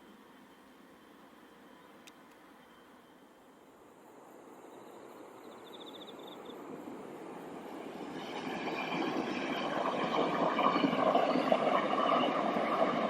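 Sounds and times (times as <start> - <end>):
train running on rails: 0.0 - 13.0.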